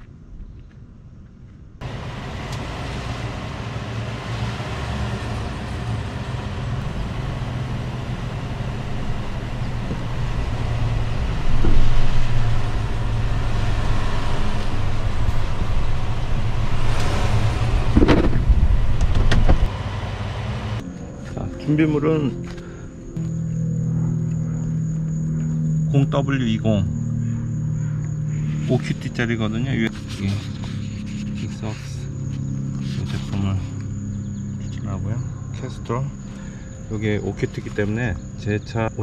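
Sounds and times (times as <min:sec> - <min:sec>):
road noise: 0:00.0 - 0:39.0
pickup engine drone: 0:01.8 - 0:39.0.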